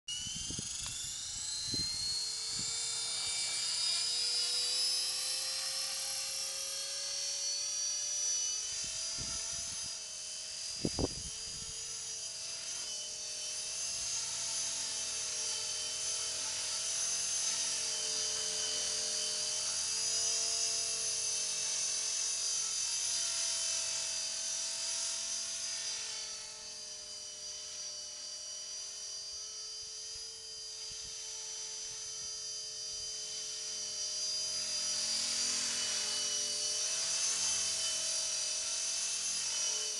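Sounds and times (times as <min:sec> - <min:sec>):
model helicopter rotor whine: 0:00.1 - 0:39.9.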